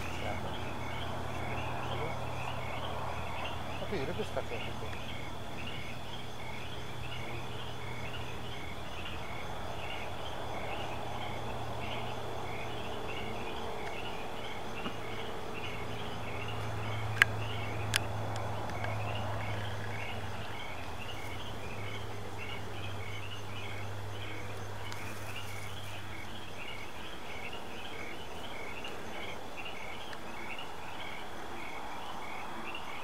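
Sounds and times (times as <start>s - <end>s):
pulsing chorus of night insects: 0.0s - 33.0s.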